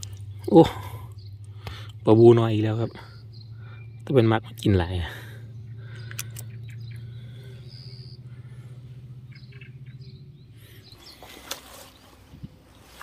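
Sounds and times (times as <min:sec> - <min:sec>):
birds chirping: 0:00.0 - 0:13.0
low pulsing drone: 0:00.0 - 0:13.0.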